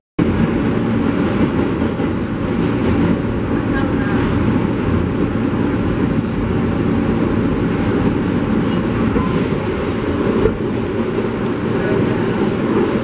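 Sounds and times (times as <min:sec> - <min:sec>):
subway train wheels rumbling: 0:00.2 - 0:13.0.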